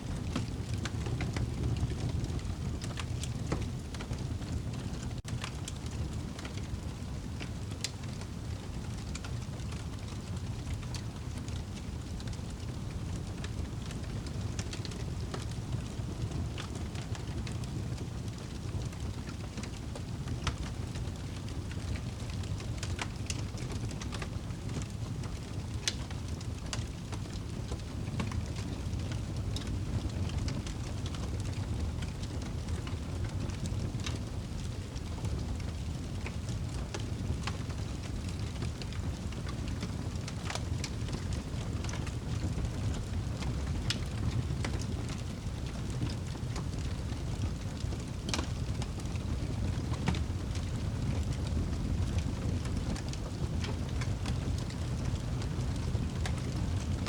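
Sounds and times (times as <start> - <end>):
low rumble of flames: 0.0 - 57.0
logs crackling and popping: 0.1 - 57.0.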